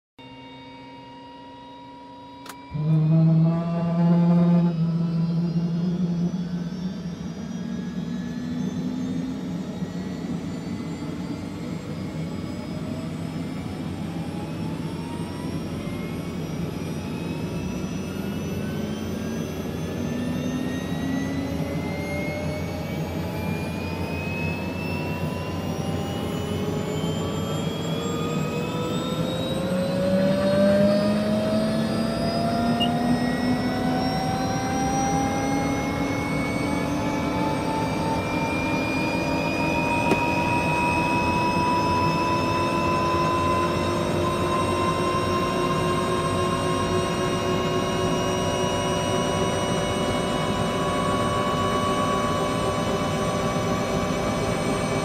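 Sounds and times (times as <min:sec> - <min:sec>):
mechanical whine rising in pitch: 0:00.2 - 0:55.0.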